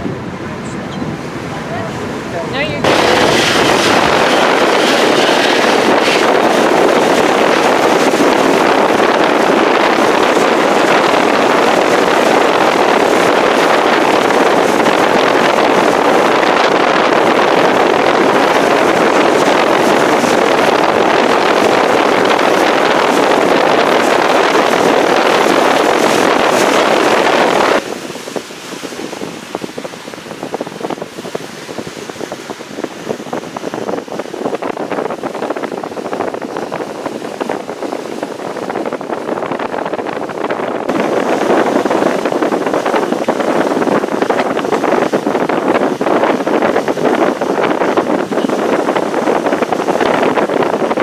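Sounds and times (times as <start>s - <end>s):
water rushing past ship: 0.0s - 51.0s
wind rushing: 0.0s - 51.0s.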